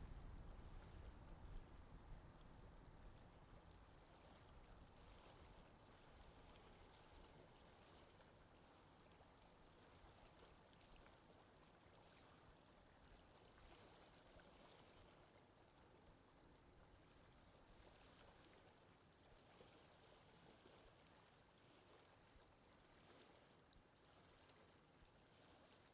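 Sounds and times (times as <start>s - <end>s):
water gently lapping: 0.0s - 25.9s.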